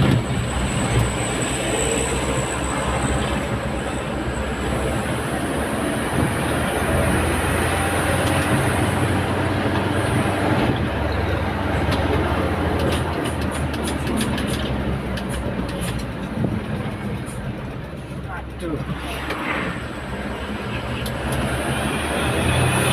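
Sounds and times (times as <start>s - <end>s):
truck diesel engine running: 0.0s - 18.8s
road and wind noise: 0.0s - 22.9s.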